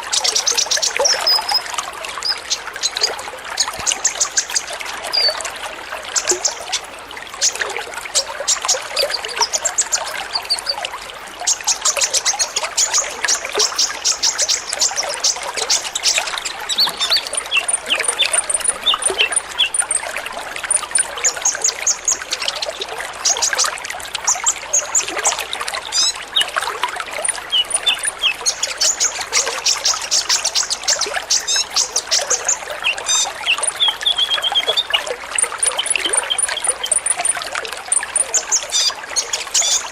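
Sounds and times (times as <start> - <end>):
sunbirds chirping and twittering: 0.0 - 5.5, 6.1 - 10.8, 11.5 - 39.9
trickle of running water: 0.0 - 39.9.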